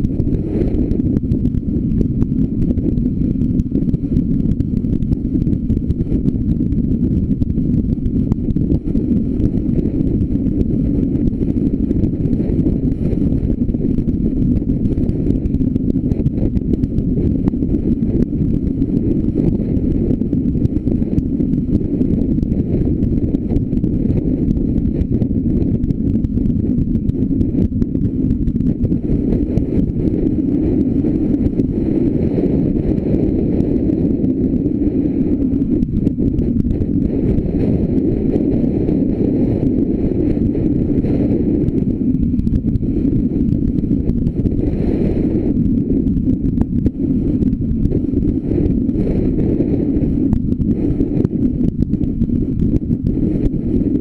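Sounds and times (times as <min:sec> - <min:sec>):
road and engine noise: 0:00.0 - 0:46.3
wind buffeting microphone: 0:00.0 - 0:54.0.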